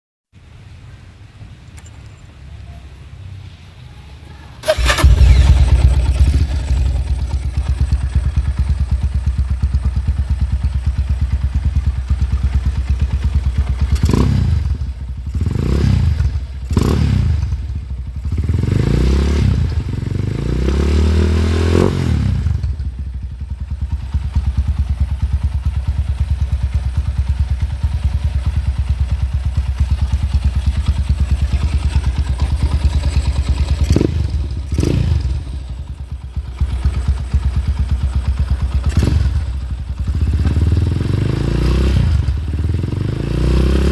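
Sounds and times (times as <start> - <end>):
motorcycle idling and revving: 0.5 - 43.9.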